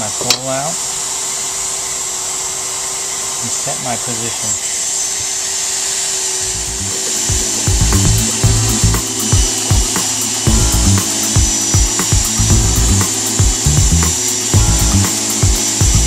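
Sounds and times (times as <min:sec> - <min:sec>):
hot-air welder hissing: 0:00.0 - 0:16.0.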